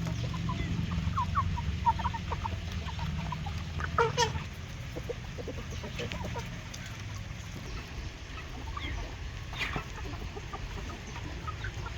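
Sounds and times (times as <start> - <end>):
hens clucking softly: 0.0 - 11.9.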